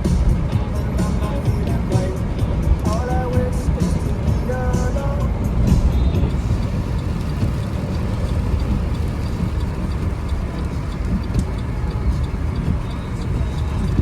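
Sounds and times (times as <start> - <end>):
car road noise from inside: 0.0 - 14.0.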